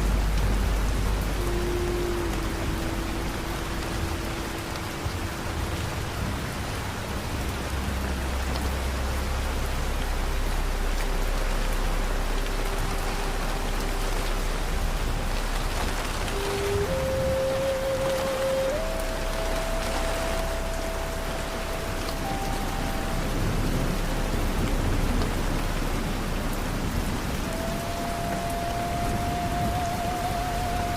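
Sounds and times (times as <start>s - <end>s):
ambient music tones: 0.0s - 30.9s
steady rain falling: 0.0s - 30.9s.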